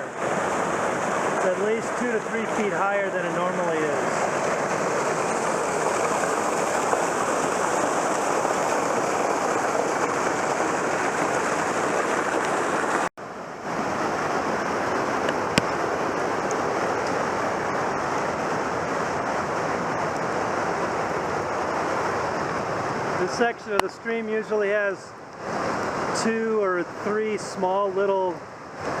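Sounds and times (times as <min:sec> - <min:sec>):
flooded creek rushing: 0:00.0 - 0:29.0.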